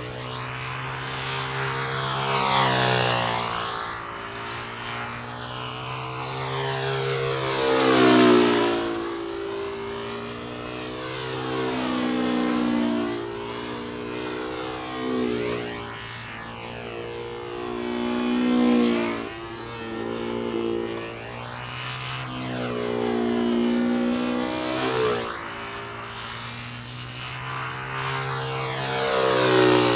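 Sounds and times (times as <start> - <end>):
model aircraft engine at high revs: 0.0 - 29.9.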